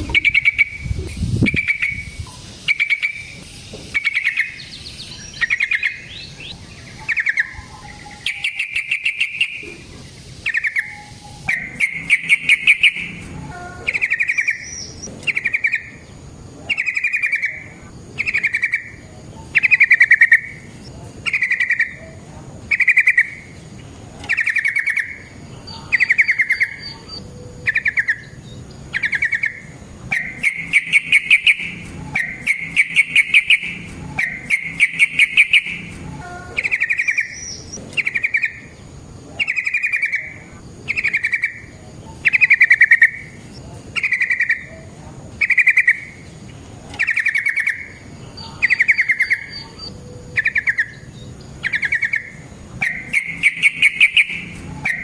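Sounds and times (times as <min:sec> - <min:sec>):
bird chattering calls: 0:00.0 - 0:55.0.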